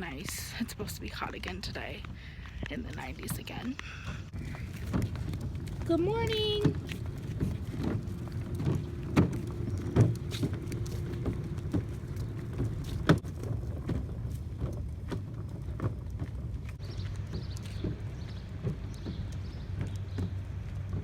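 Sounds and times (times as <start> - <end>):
footsteps walking: 0.0 - 21.0
wind rumble: 0.0 - 21.0.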